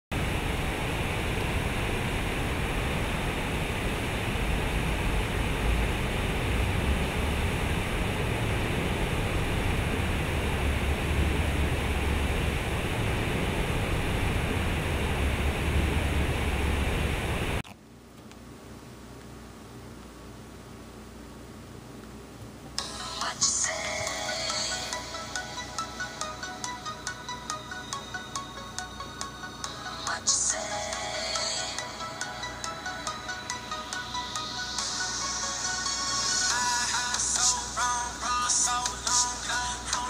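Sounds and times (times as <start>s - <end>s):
faint room hiss: 0.2s - 40.0s.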